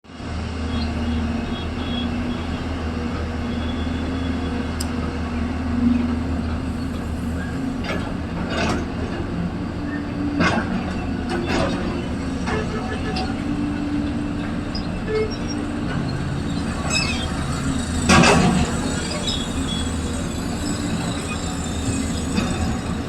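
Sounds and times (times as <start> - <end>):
excavator diesel engine running: 0.1 - 23.0.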